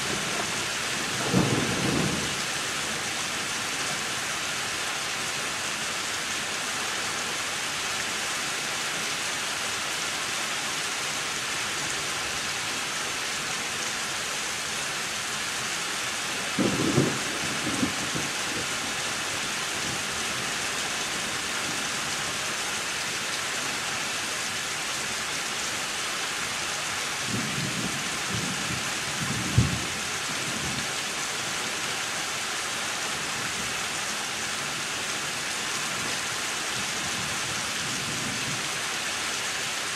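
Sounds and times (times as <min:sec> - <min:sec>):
rain hissing down: 0:00.0 - 0:39.9.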